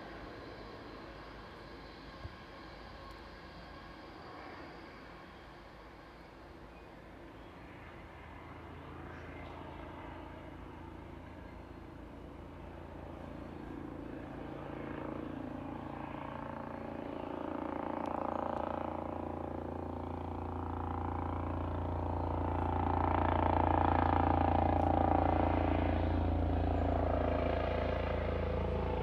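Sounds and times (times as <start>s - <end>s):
helicopter flying overhead: 0.0s - 29.0s.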